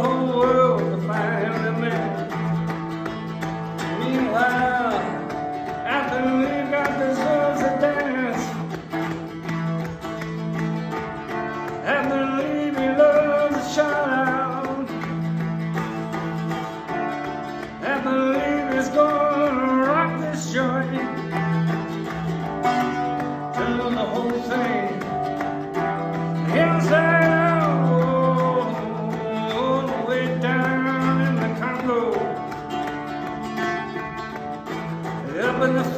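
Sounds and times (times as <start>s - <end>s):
person singing: 0.0s - 15.8s, 16.9s - 34.4s, 35.0s - 35.9s
plucked strings: 0.0s - 35.9s.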